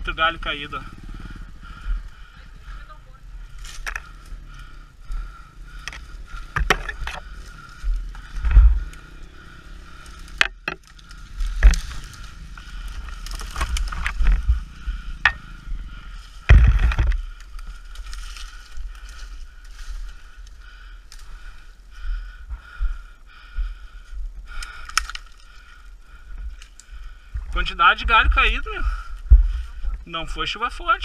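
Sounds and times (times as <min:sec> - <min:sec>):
motorcycle engine rumbling: 0:00.0 - 0:31.0
branches knocking and scraping: 0:01.2 - 0:22.0, 0:24.4 - 0:30.2.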